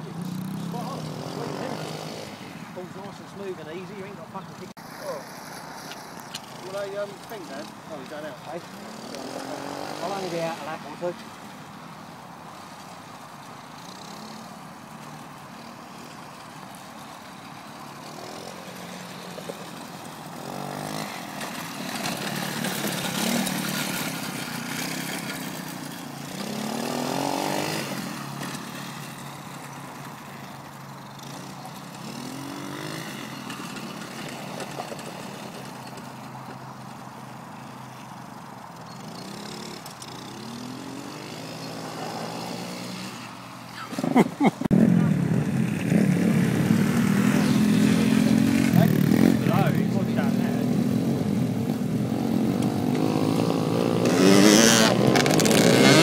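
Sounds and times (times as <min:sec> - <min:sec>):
quad bike engine revving: 0:00.0 - 0:05.7, 0:06.4 - 0:11.4, 0:13.7 - 0:16.4, 0:17.0 - 0:37.8, 0:38.8 - 0:56.0.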